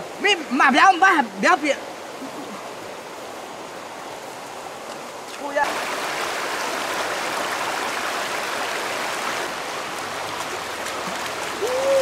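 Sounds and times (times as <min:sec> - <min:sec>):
stream running over stones: 0:00.0 - 0:12.0.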